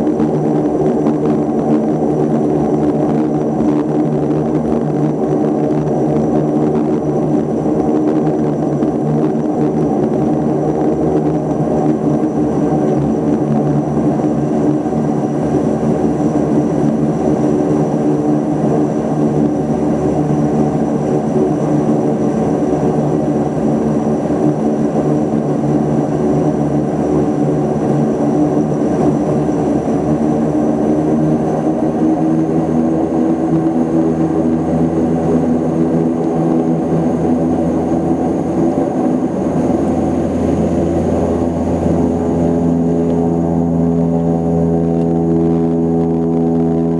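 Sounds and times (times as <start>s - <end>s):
high engine whine: 0.0s - 46.9s
propeller engine drone: 0.0s - 46.9s.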